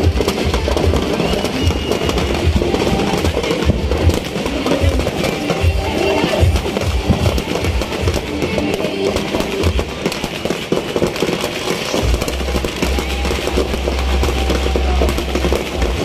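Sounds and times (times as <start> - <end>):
firecrackers crackling and popping: 0.0 - 16.0
loud music with heavy bass: 0.0 - 16.0.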